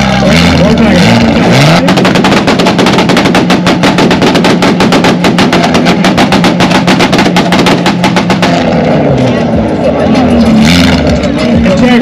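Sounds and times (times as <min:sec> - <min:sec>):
car engine at high revs: 0:00.0 - 0:12.0
exhaust popping and banging: 0:00.0 - 0:12.0.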